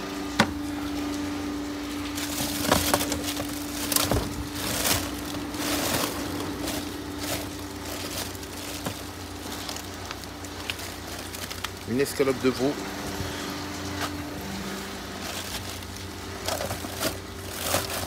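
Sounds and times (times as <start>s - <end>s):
plastic packaging crinkling: 0.0s - 18.0s
steady low hum: 0.0s - 18.0s.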